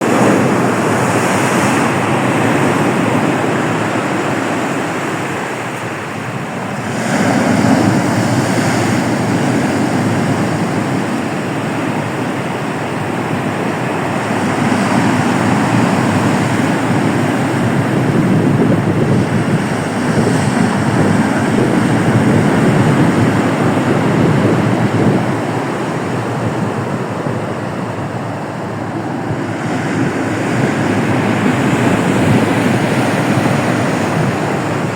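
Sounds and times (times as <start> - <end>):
waves breaking on shore: 0.0 - 34.9.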